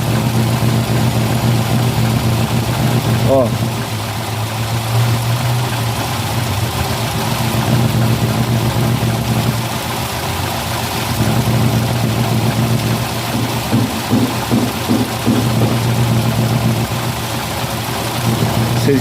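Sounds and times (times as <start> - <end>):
car engine idling: 0.0 - 19.0
exhaust leak noise: 0.0 - 19.0.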